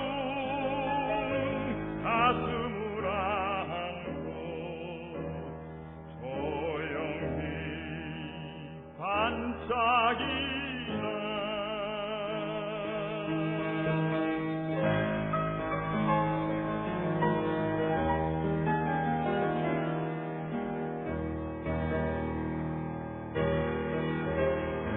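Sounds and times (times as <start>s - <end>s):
classical art song with vibrato: 0.0s - 24.9s.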